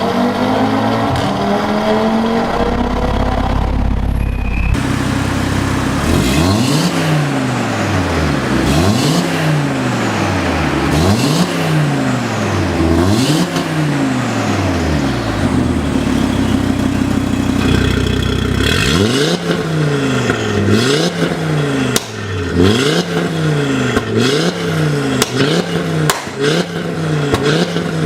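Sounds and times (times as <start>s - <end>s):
car engine revving: 0.0s - 28.0s
car engine idling: 4.8s - 27.4s.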